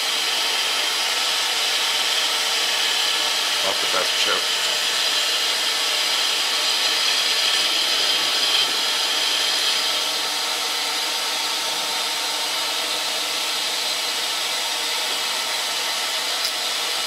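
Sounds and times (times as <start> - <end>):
lathe cutting metal bar: 0.0 - 17.0
metal lathe whining: 0.0 - 17.0.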